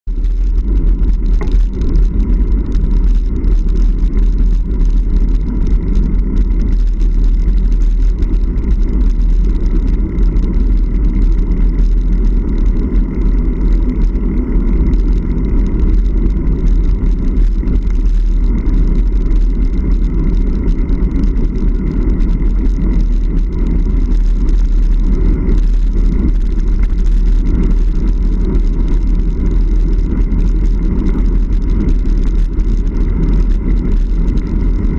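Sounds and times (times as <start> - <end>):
bike tyres rolling on gravel: 0.1 - 34.9.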